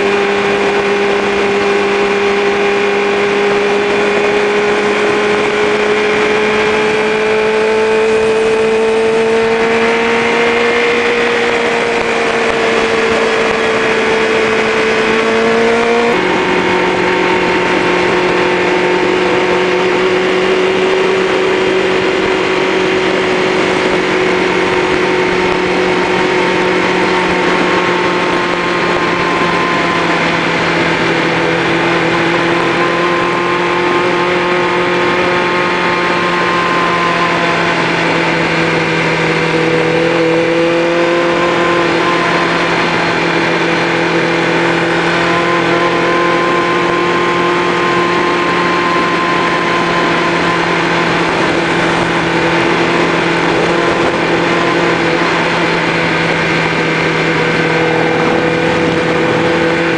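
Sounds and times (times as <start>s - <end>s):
motorcycle engine cruising: 0.0s - 59.9s
wind rush: 0.0s - 59.9s.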